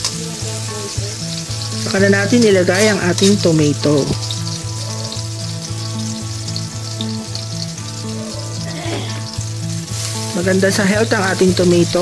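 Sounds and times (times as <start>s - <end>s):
background music with low beat: 0.0s - 12.0s
food sizzling in hot oil: 0.0s - 12.0s.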